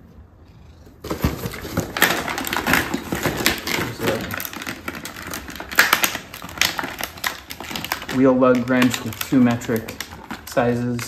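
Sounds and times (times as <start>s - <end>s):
plastic packaging crackling: 1.0s - 11.0s.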